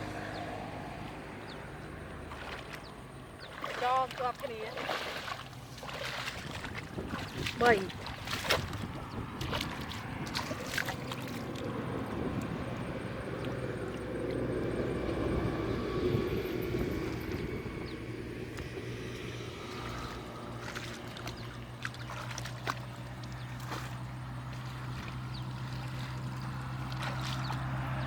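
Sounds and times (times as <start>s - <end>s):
water sloshing and gurgling: 0.0s - 28.0s.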